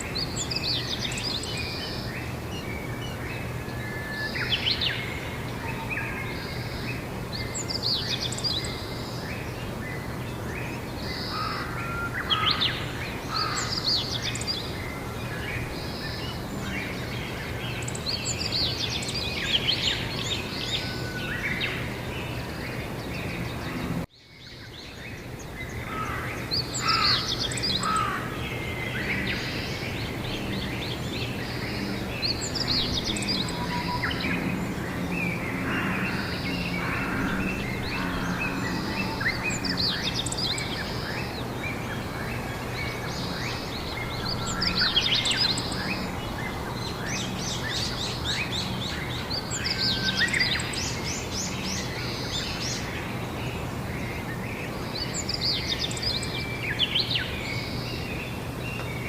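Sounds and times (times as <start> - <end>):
songbirds warbling: 0.0 - 59.0.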